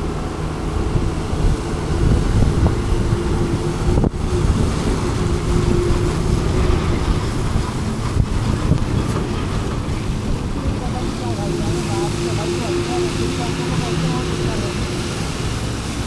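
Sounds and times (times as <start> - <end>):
scooter engine hum: 0.0 - 16.0
wind buffeting microphone: 0.0 - 16.0.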